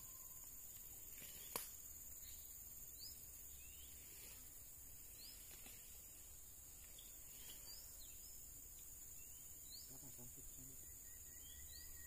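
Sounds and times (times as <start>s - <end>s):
bird chirps: 0.0s - 12.0s
steady high hiss: 0.0s - 12.0s.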